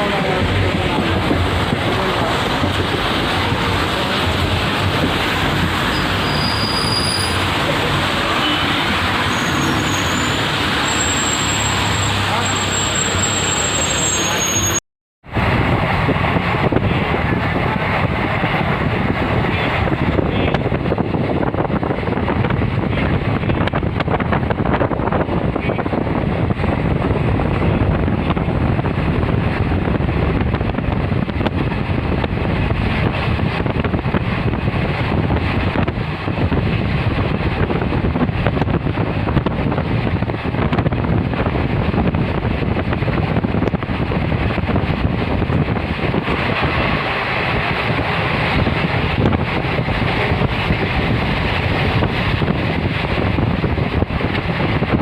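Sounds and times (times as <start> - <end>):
wind buffeting microphone: 0.0 - 10.8, 15.3 - 55.0
passenger train rumbling: 0.0 - 55.0.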